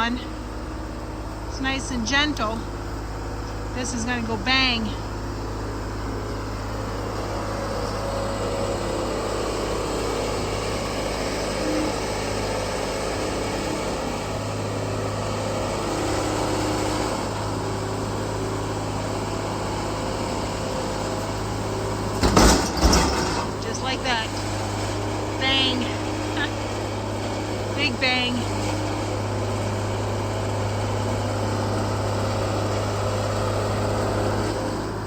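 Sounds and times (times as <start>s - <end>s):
excavator engine under hydraulic load: 0.0s - 35.0s.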